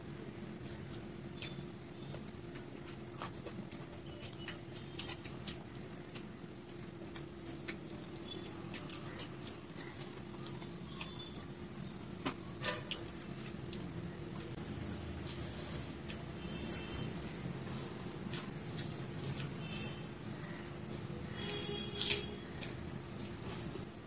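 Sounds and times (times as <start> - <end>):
chewing and lip-smacking: 0.5 - 23.9.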